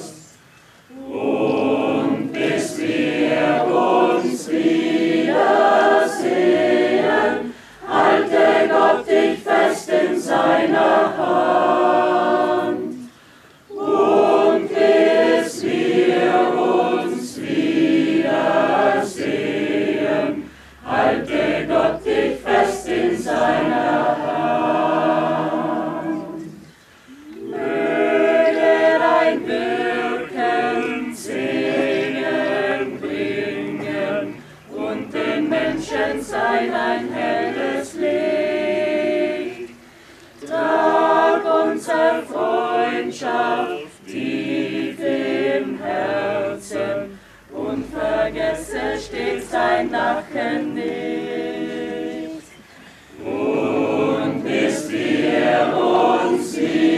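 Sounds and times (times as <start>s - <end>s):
mixed choir singing a cappella: 0.0s - 56.9s.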